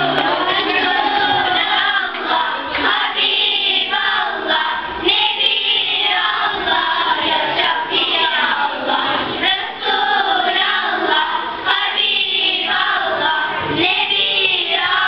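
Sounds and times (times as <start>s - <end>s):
choir of girls singing: 0.0s - 15.0s.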